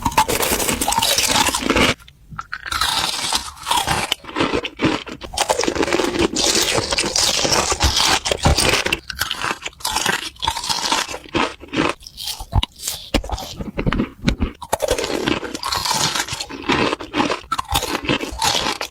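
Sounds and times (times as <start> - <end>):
person chewing crunchy food: 0.0 - 18.9.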